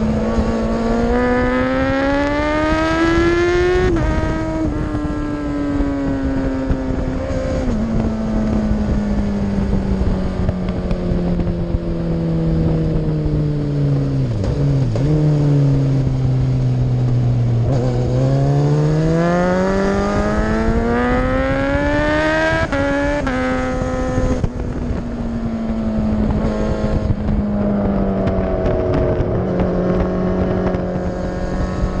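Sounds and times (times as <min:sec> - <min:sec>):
racing motorcycle engine revving: 0:00.0 - 0:32.0
wind rush: 0:00.0 - 0:32.0.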